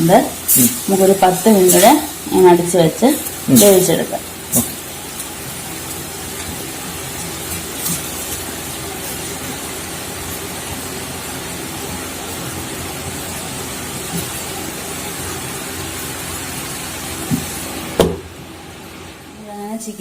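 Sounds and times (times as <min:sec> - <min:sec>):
covered pan hissing: 0:00.0 - 0:20.0.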